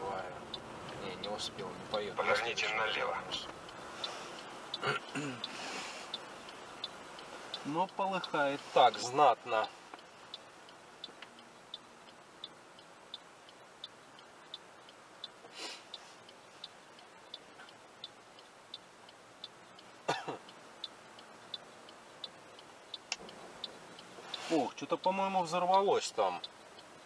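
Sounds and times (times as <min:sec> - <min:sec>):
turn signal ticking: 0:00.0 - 0:27.0.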